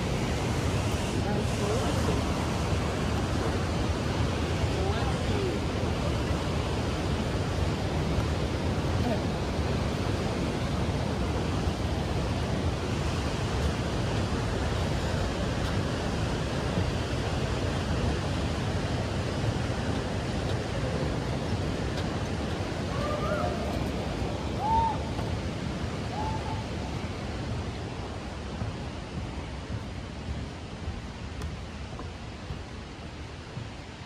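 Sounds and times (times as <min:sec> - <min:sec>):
fast-flowing creek water: 0:00.0 - 0:34.0.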